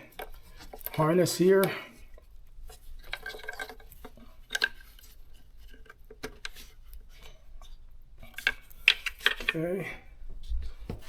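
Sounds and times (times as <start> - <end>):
rustling of plastic and wiring: 0.0 - 11.0.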